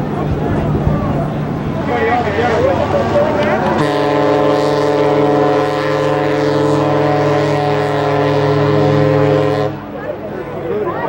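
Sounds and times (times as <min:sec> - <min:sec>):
ship's horn blast: 0:00.0 - 0:11.0.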